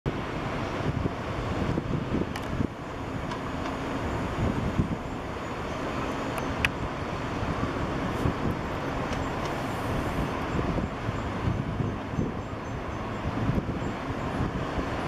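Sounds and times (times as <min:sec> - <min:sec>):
distant city traffic: 0:00.1 - 0:15.0.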